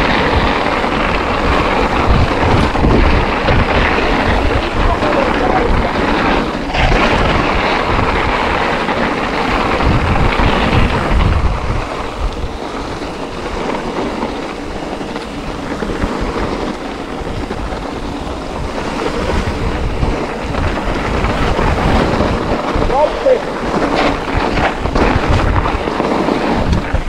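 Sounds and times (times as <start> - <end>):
bike rattling: 0.0 - 27.0
tyres on snow: 0.0 - 27.0
wind buffeting microphone: 0.0 - 27.0.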